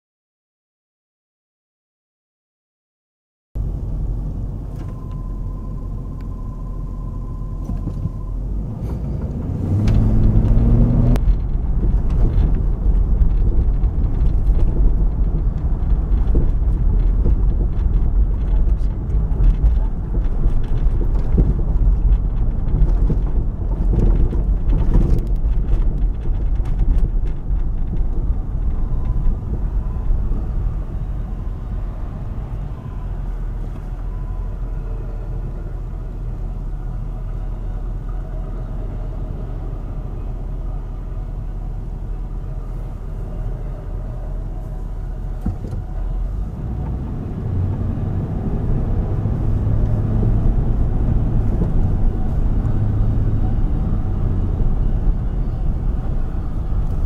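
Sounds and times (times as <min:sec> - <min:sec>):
car engine rumble: 0:03.6 - 0:57.0
road noise: 0:03.6 - 0:57.0.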